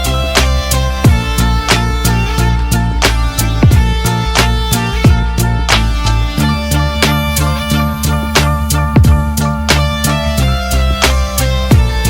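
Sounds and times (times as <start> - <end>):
bass: 0.0 - 12.0
sustained instrumental notes: 0.0 - 12.0.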